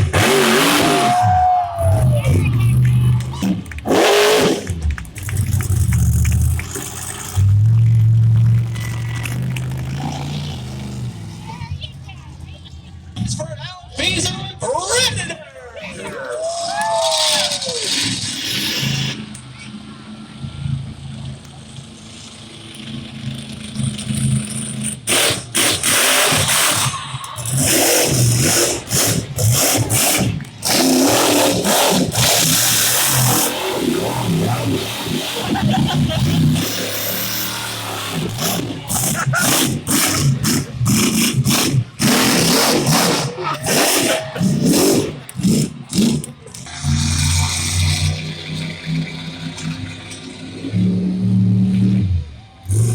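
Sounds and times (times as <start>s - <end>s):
truck engine rumbling and revving: 0.0s - 52.9s.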